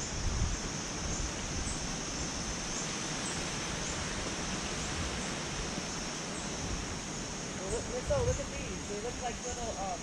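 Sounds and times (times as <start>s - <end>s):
steady broad hiss: 0.0s - 10.0s.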